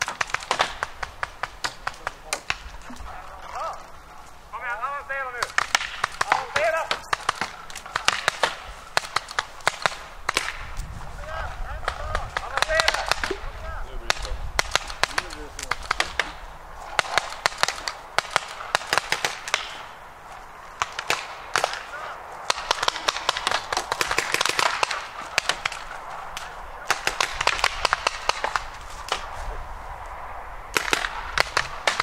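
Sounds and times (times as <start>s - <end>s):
paintball markers firing: 0.0s - 4.0s, 5.4s - 10.8s, 11.8s - 20.0s, 20.8s - 29.4s, 30.7s - 32.0s.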